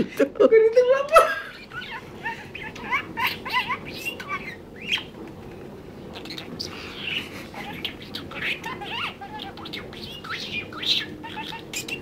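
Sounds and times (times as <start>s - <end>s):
birds chirping and chattering: 1.3s - 12.0s.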